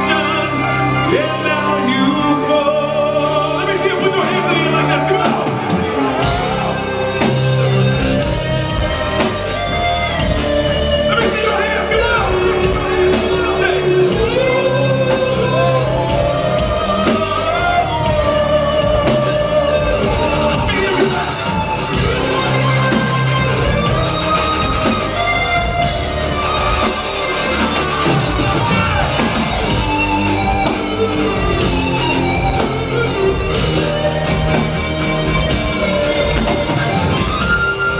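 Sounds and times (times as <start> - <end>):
metal band playing live: 0.0 - 37.9.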